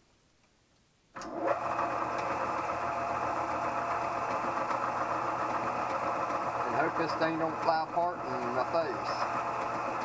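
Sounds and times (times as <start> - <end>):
drill press motor humming: 1.2 - 10.0.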